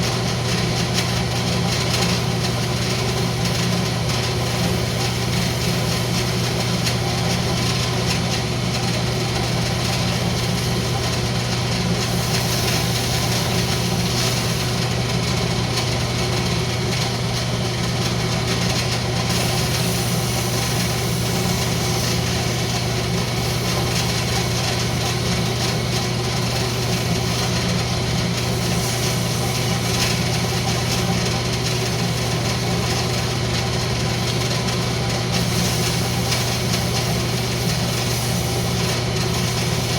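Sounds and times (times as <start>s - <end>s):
wood lathe motor hum: 0.0s - 39.9s.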